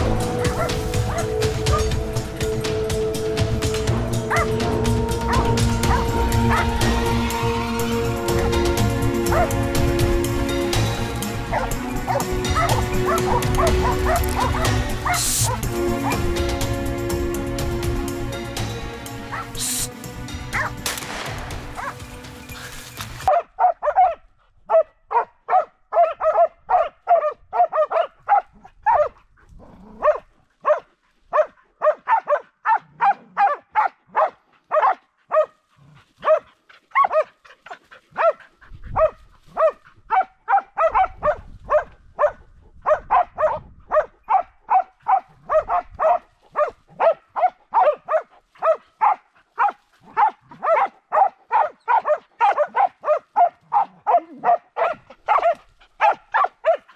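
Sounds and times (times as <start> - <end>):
dogs barking: 0.0 - 2.5, 3.6 - 7.4, 8.1 - 16.5, 19.2 - 19.9, 20.5 - 20.9, 21.7 - 22.1, 23.2 - 56.9.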